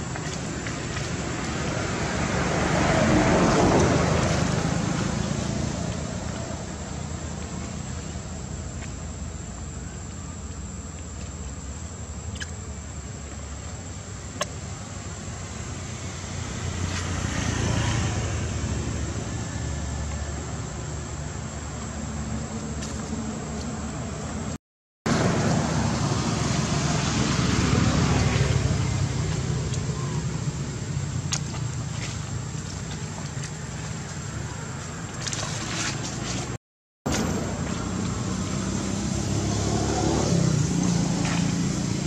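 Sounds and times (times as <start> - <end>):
outdoor rumble and hiss: 0.0 - 42.0.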